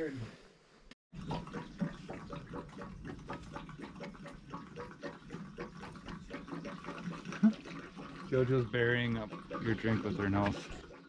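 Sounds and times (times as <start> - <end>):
fuel glugging from a can: 1.1 - 11.0.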